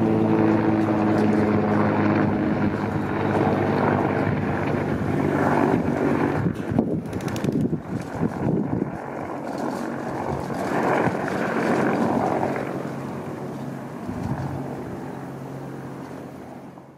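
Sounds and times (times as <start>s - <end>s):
helicopter passing overhead: 0.0s - 16.9s.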